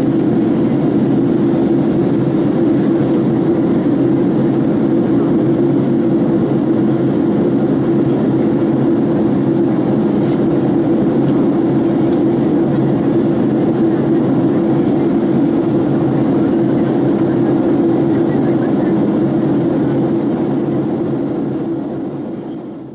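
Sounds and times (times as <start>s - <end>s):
airliner cabin engine drone: 0.0s - 22.9s.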